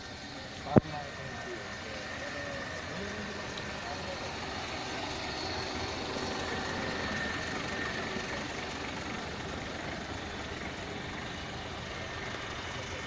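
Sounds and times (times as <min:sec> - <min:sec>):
faint steady high tone: 0:00.0 - 0:13.0
off-road vehicle engines idling: 0:00.0 - 0:13.0.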